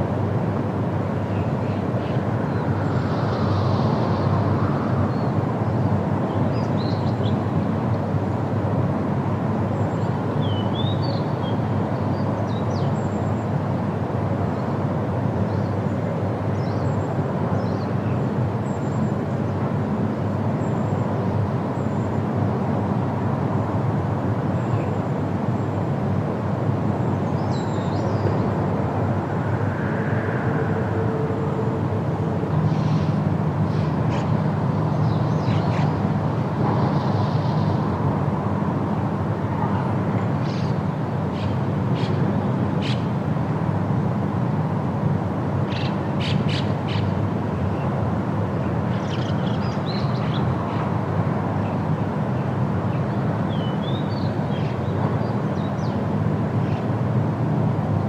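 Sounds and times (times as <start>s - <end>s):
wind rushing through trees: 0.0s - 58.0s.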